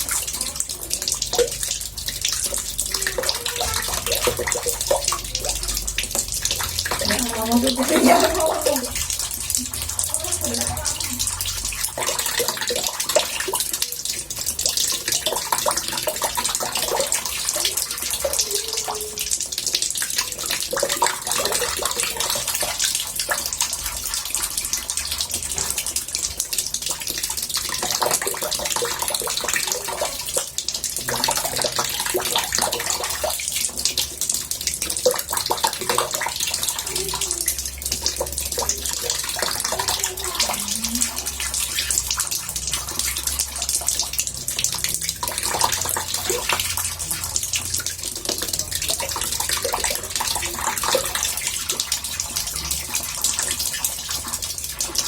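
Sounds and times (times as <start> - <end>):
water running into bathtub: 0.0 - 55.0.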